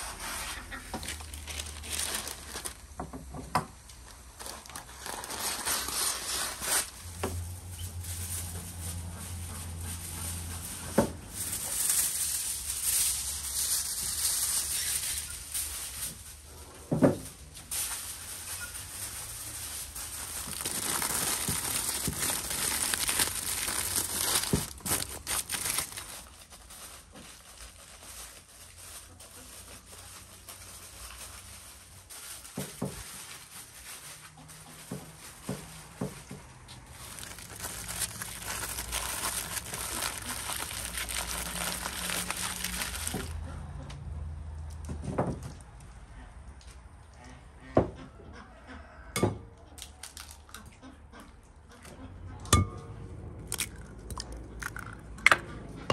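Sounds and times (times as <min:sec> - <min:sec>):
aluminium foil crinkling: 0:00.0 - 0:43.4, 0:49.8 - 0:50.7, 0:53.5 - 0:55.1.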